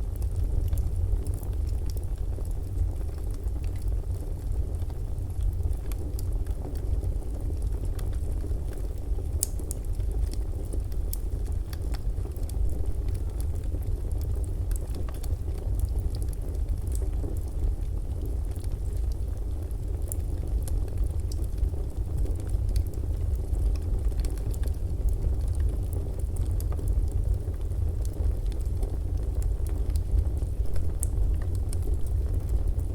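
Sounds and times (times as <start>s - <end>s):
fire low rumble: 0.0s - 32.9s
wood fire crackling and popping: 0.1s - 32.9s.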